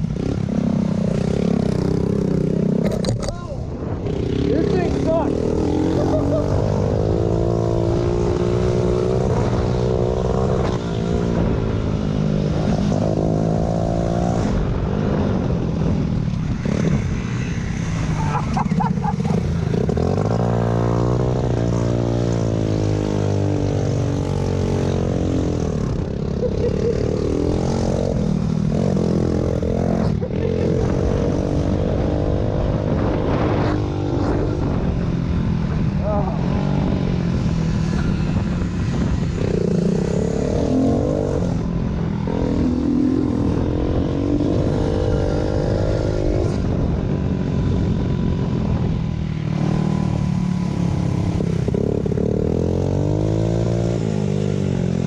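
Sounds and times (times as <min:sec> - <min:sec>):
motorbike engines revving: 0:00.0 - 0:55.0.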